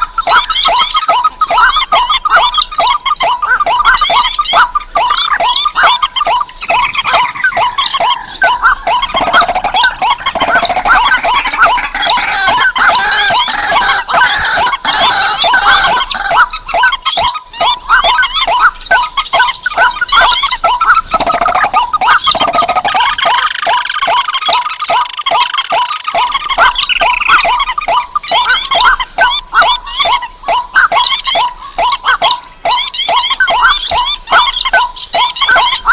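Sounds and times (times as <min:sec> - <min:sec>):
fast repeated short bird notes: 0:00.0 - 0:35.9
longer higher bird calls: 0:00.0 - 0:35.9
wetland rails calling: 0:00.0 - 0:35.9.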